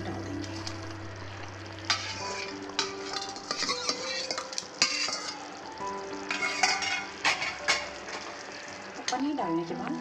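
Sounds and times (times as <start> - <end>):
gravy sizzling in a pan: 0.0 - 10.0.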